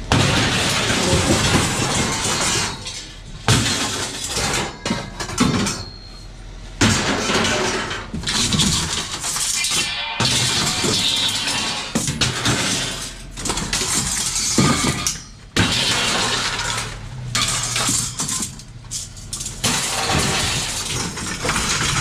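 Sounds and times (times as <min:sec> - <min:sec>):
scrap metal clattering and crashing: 0:00.0 - 0:22.0.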